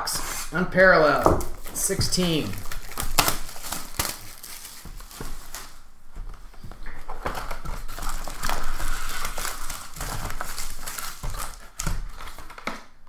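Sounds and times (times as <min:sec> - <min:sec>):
foil card packs crinkling: 0:00.3 - 0:13.0.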